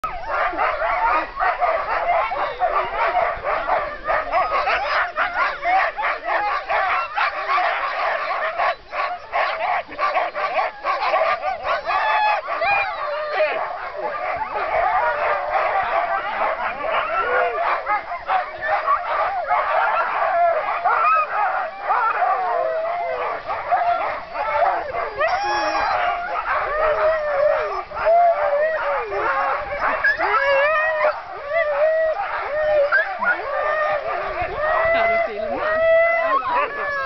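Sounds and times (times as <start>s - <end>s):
sled dogs barking and howling: 0.0s - 37.0s.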